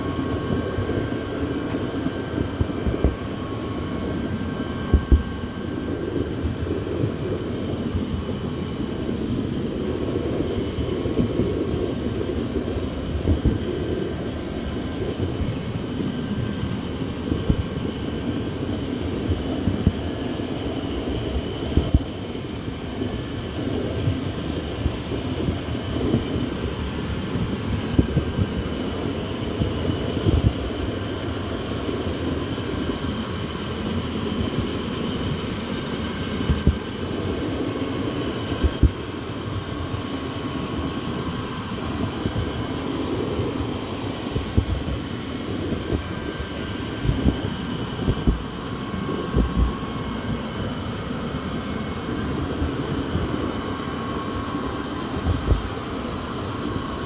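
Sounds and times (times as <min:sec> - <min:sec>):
faint steady whine: 0:00.0 - 0:57.0.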